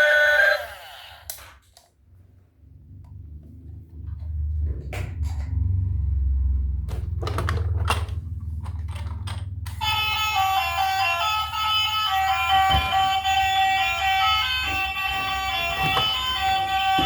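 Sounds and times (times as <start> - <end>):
toy vehicle low rumble: 2.6 - 17.0.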